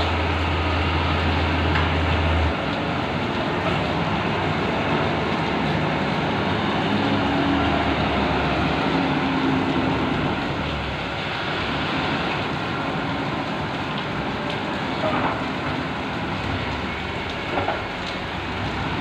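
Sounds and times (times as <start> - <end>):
heavy rain rushing: 0.0 - 19.0.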